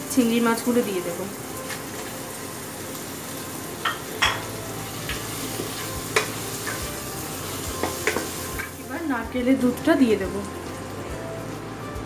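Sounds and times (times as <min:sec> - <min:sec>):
prawns sizzling in a pan: 0:00.0 - 0:12.0.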